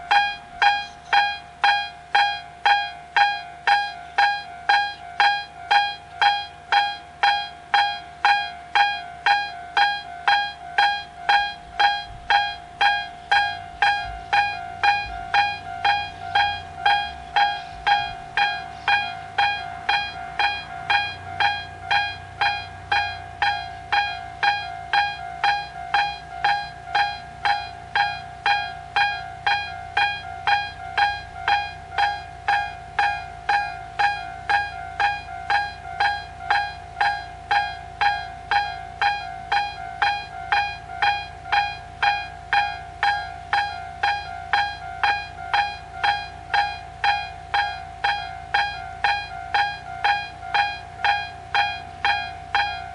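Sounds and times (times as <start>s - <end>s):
level crossing alarm bell ringing: 0.0s - 52.9s.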